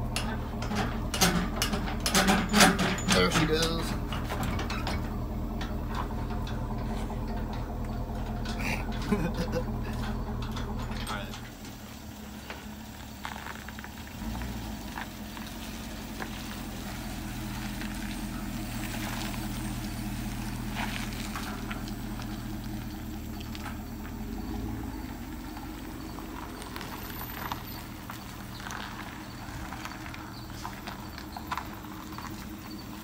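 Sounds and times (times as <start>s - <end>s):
engine running at low speed: 0.0s - 33.0s
trailer hitch clicks and rattles: 0.0s - 33.0s.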